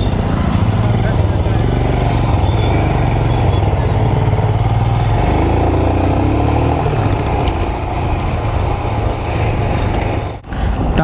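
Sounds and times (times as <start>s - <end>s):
motorcycle engine accelerating: 0.0s - 10.4s.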